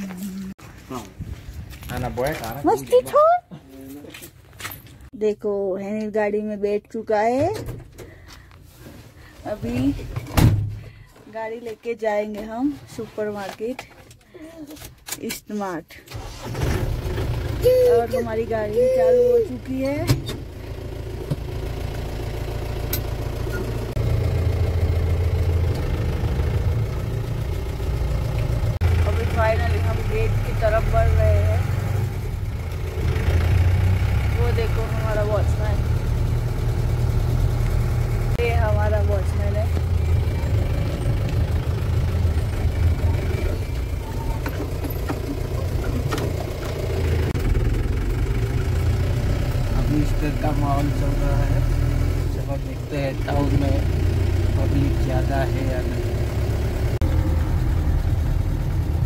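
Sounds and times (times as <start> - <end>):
car engine rumble from inside: 6.6 - 11.5, 16.1 - 59.0.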